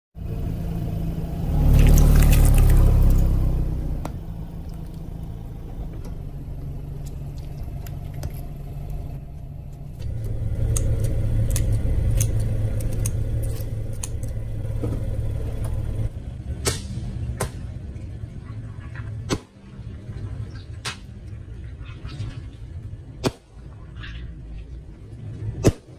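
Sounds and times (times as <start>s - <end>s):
car engine rumbling: 0.2s - 25.7s.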